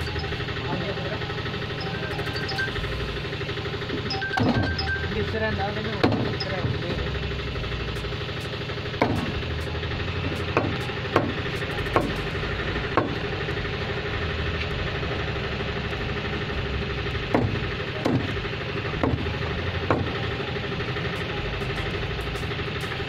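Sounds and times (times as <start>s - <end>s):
steady engine-like hum: 0.0s - 23.0s.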